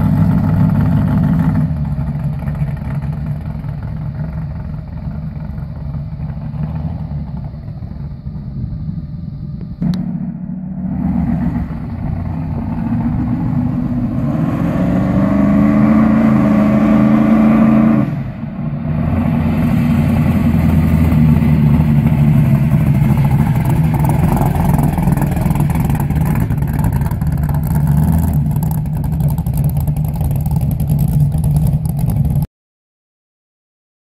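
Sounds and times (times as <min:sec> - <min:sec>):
car engine revving and idling rough: 0:00.0 - 0:32.5.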